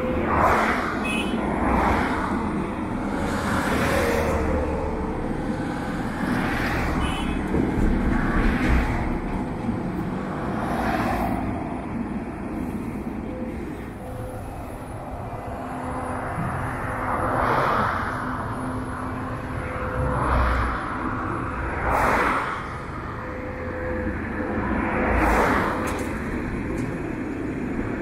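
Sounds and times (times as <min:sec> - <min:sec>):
heavy vehicles and machinery running: 0:00.0 - 0:28.0.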